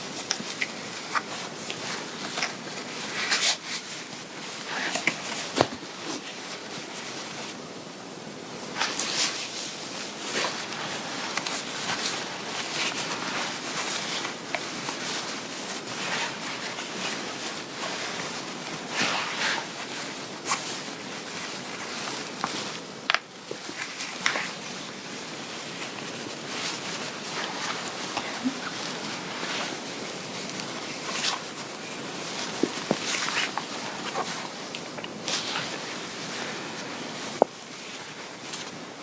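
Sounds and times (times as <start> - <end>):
fabric rustling and rubbing: 0.0 - 39.0.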